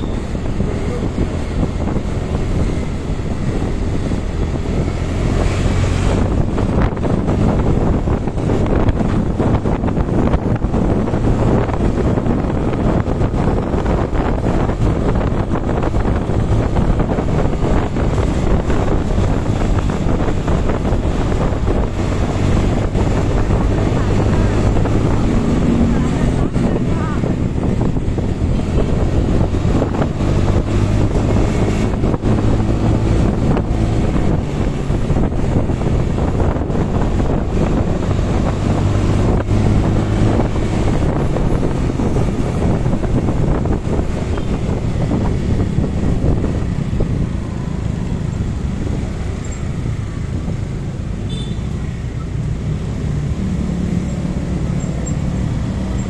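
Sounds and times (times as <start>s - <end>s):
road noise: 0.0s - 56.0s
wind buffeting microphone: 0.0s - 56.0s.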